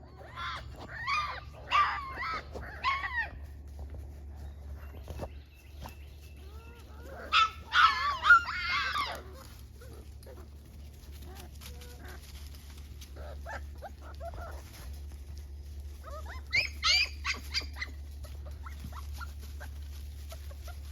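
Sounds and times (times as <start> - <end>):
puppies whimpering and yelping: 0.0 - 20.9
steady low hum: 0.0 - 20.9.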